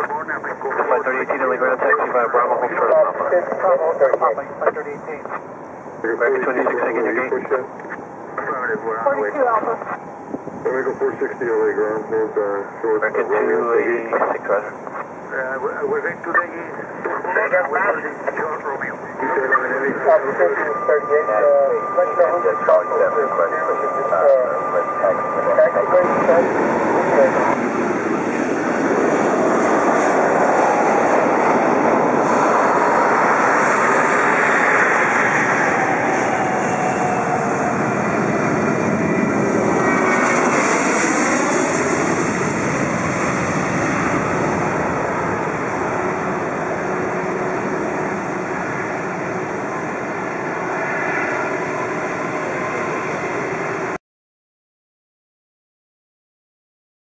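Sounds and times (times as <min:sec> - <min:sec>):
jet engine roar passing by: 0:00.0 - 0:54.0
jet engine whine: 0:00.0 - 0:54.0.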